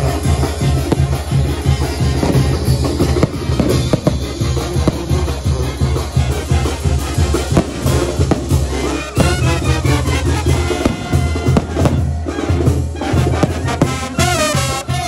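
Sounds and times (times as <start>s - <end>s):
brass band with bass and drums: 0.0s - 15.0s.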